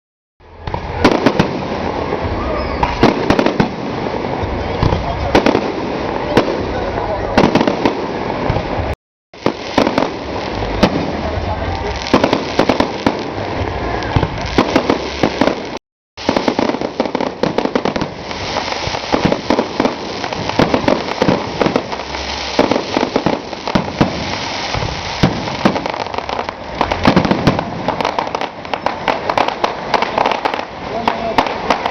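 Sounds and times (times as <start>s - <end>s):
fireworks bangs and crackles: 0.4s - 31.9s.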